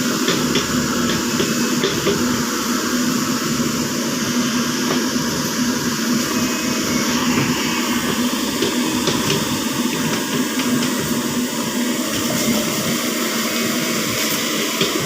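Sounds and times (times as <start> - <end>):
mini excavator diesel engine: 0.0 - 15.0.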